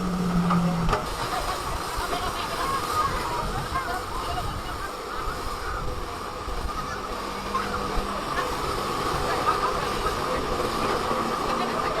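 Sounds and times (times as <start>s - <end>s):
diesel engine rumbling: 0.0s - 3.6s, 5.4s - 12.0s.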